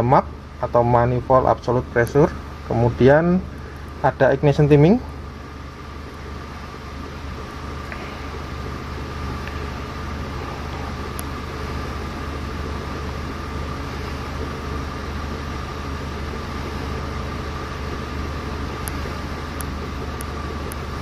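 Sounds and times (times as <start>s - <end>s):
car engine idling: 3.4s - 21.0s.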